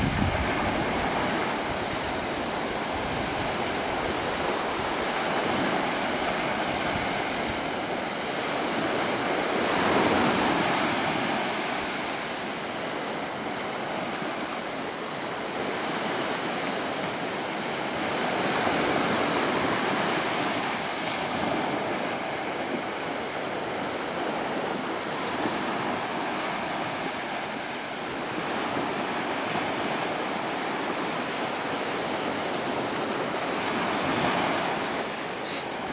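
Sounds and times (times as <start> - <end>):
ocean waves breaking on beach: 0.0 - 35.9.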